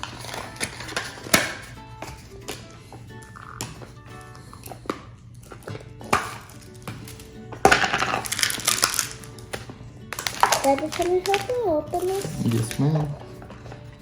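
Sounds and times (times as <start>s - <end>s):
faint background music: 0.0s - 14.0s
plastic tubs clattering: 0.0s - 14.0s.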